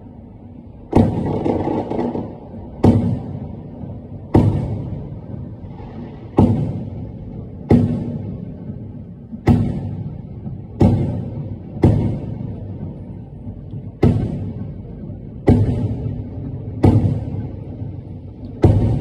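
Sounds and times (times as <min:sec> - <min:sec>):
firework shells booming: 0:00.9 - 0:19.0.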